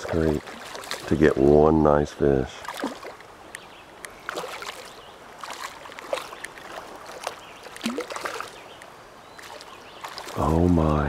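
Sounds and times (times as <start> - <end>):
small irregular splashes: 0.0 - 1.6, 2.2 - 11.0
creek water sloshing: 0.0 - 11.0.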